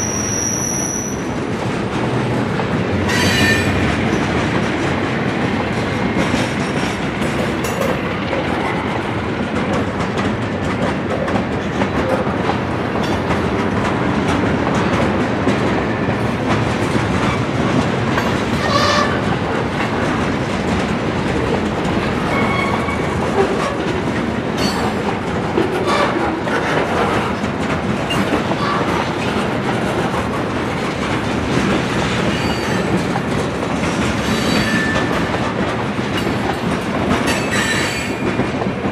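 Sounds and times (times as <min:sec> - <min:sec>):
steel wheels rumbling on rail: 0:00.0 - 0:38.9
wheels clicking over rail joints: 0:01.6 - 0:38.9.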